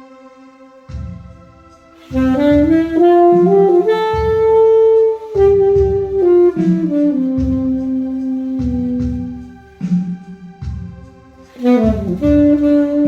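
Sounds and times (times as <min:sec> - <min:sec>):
alto saxophone: 0:00.0 - 0:13.0
low backing track pulses: 0:00.0 - 0:13.0.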